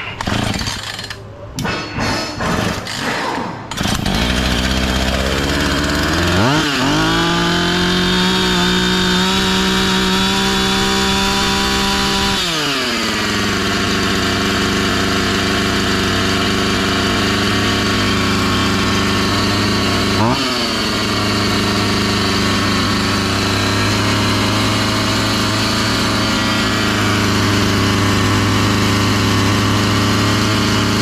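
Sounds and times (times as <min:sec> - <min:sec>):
chainsaw starter cord pull: 0:00.0 - 0:01.2, 0:02.6 - 0:31.0
chainsaw engine revving and idling: 0:00.2 - 0:01.2, 0:03.7 - 0:31.0.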